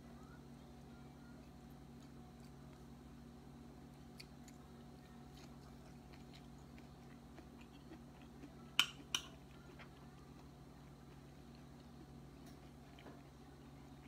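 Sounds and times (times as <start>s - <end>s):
low steady hum: 0.0s - 14.0s
faint chewing: 1.3s - 3.0s, 3.8s - 14.0s.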